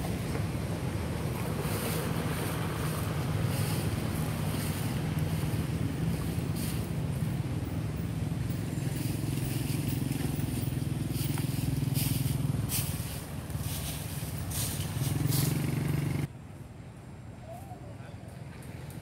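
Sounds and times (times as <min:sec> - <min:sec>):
small engine humming: 0:00.0 - 0:16.3
dry leaves crackling: 0:00.6 - 0:16.3.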